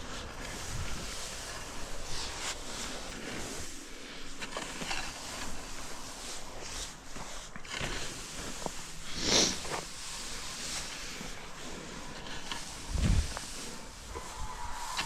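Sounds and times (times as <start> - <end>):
faint feedlot background: 0.0 - 15.0.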